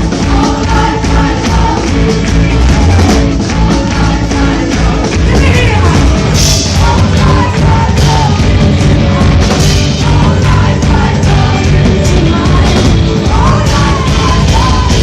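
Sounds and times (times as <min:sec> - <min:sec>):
drums: 0:00.0 - 0:15.0
live rock band: 0:00.0 - 0:15.0
person singing: 0:00.0 - 0:15.0.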